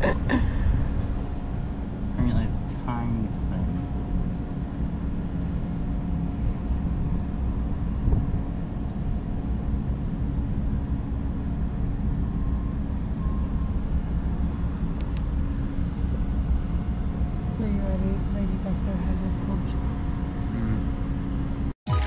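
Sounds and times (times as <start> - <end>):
ship machinery hum: 0.0 - 22.0.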